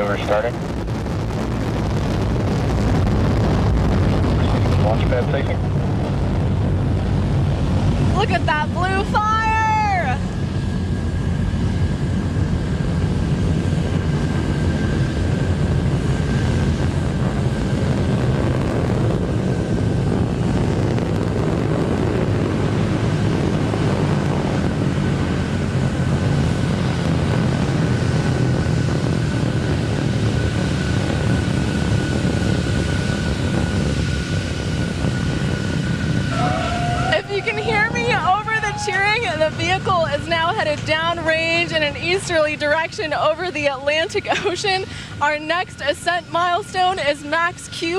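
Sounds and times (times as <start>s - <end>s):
rocket engine low rumble: 0.0s - 47.9s.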